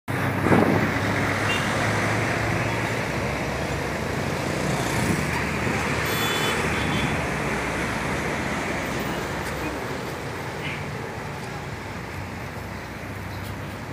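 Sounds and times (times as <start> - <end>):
road traffic of large vehicles: 0.1 - 13.9.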